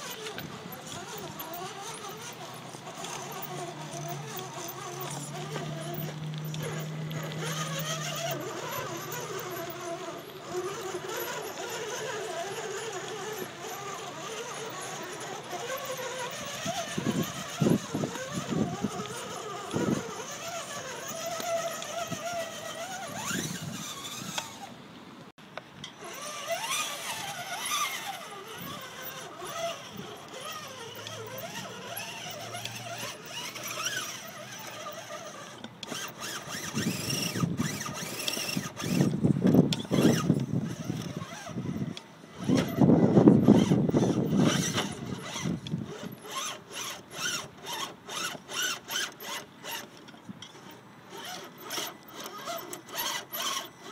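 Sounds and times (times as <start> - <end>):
electric motor and gears whining: 0.0 - 53.9.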